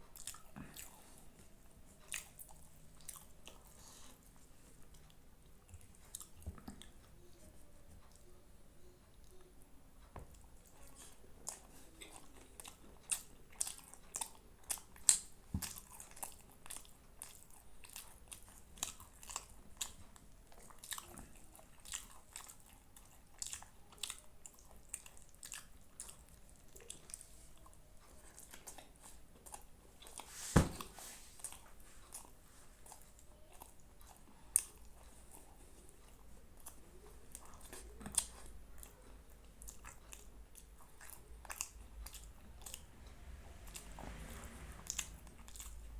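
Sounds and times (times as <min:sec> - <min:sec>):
chewing and biting food: 0:00.0 - 0:01.3, 0:01.9 - 0:07.1, 0:10.3 - 0:30.3, 0:31.4 - 0:45.9.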